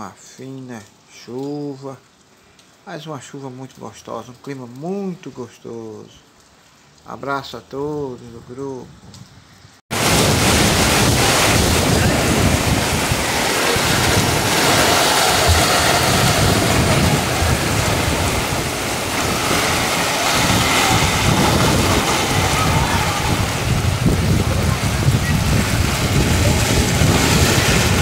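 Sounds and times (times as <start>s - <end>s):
heavy rain on canopies and street: 0.0s - 28.0s
water running off canopy: 0.0s - 28.0s.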